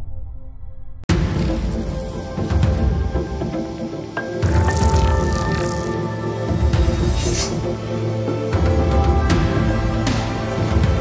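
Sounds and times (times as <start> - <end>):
soundtrack music: 1.1 - 11.0.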